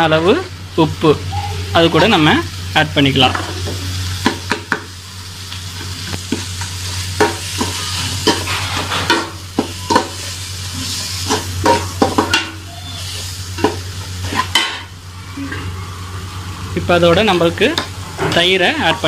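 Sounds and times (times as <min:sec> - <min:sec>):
food sizzling: 0:00.0 - 0:19.0.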